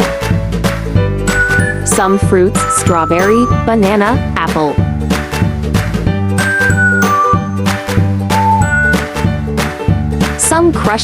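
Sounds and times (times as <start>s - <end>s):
light bright tune with beat: 0.0s - 10.5s.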